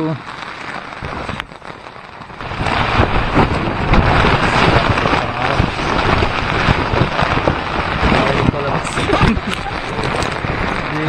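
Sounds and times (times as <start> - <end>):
heavy rain and wind on tent: 0.0 - 11.0.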